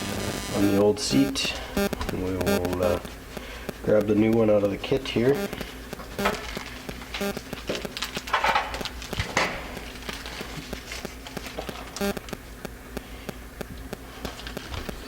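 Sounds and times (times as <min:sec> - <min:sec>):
packaging rustling: 0:01.0 - 0:12.6, 0:14.1 - 0:15.0.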